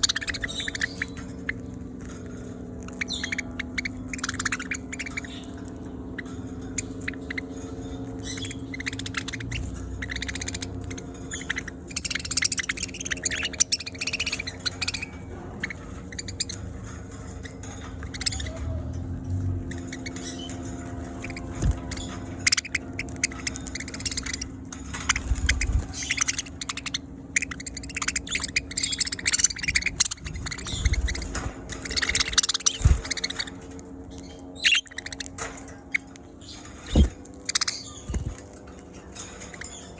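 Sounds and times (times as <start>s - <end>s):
budgerigars chirping: 0.0s - 39.9s
steady low hum: 0.0s - 39.9s.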